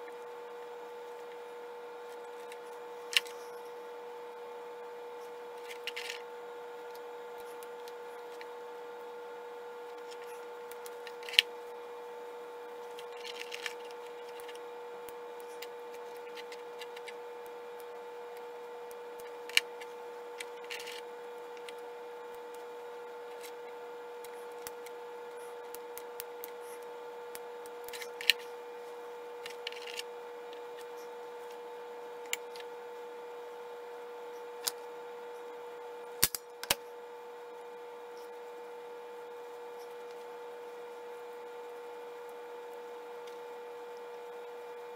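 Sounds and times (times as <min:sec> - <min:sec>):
steady hum with held tones: 0:00.0 - 0:44.9.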